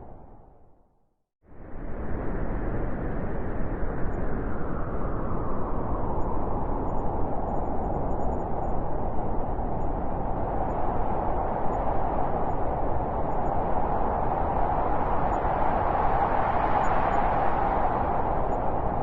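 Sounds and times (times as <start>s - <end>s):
blizzard wind howling: 1.5s - 19.0s.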